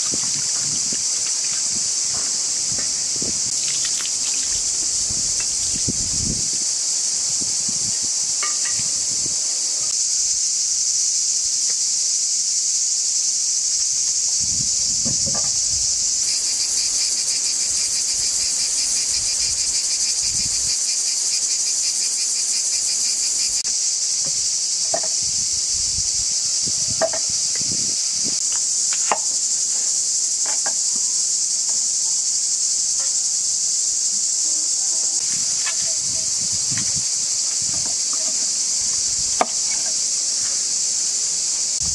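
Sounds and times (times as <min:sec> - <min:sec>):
high-pitched insect chorus: 0:00.0 - 0:41.9
rapidly pulsing insect buzz: 0:00.0 - 0:41.9.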